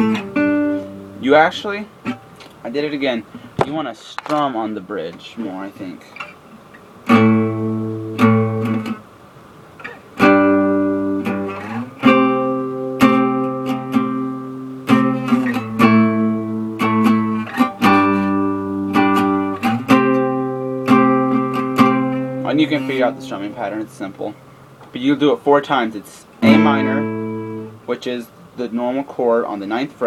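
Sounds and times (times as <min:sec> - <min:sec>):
guitar strumming chords: 0:00.0 - 0:03.6, 0:05.1 - 0:28.8.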